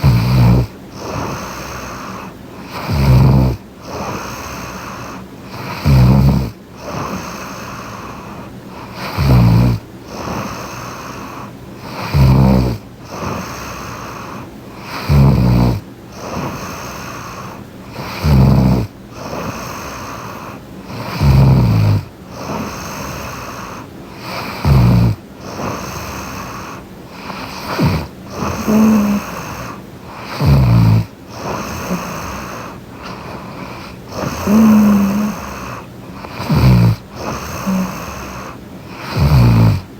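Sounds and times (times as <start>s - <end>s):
woman snoring: 0.0s - 39.9s.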